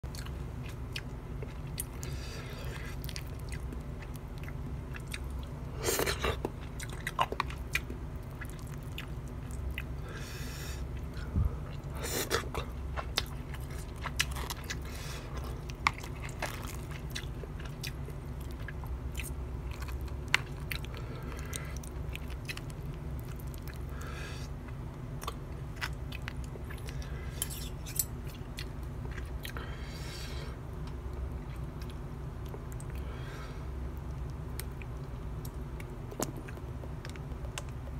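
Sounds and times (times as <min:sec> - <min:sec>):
low steady hum: 0:00.0 - 0:37.9
person chewing food: 0:00.1 - 0:37.9.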